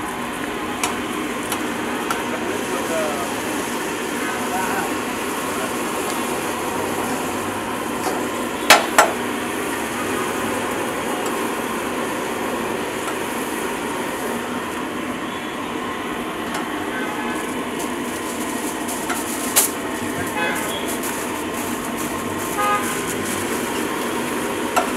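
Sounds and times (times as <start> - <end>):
steady background noise: 0.0 - 24.9.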